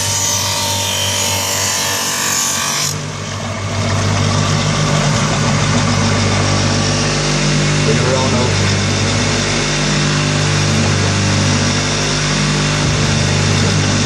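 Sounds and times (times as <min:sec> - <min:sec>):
machine motor humming: 0:02.2 - 0:14.0.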